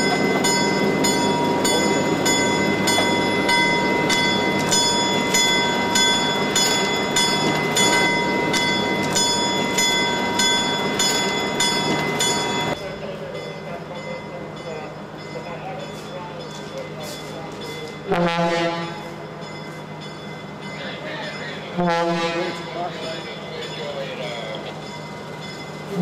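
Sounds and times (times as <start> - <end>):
locomotive bell ringing: 0.0 - 26.0.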